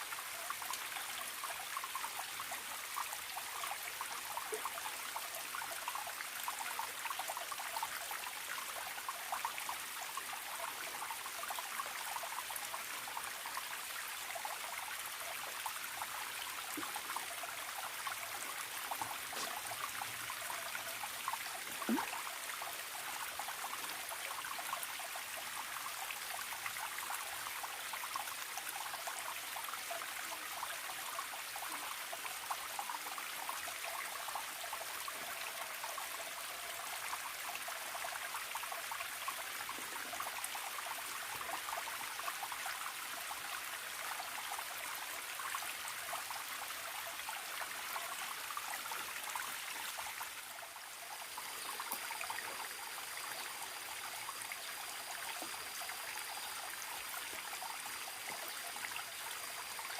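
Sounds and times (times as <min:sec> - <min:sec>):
stream trickling and babbling: 0:00.0 - 0:59.9.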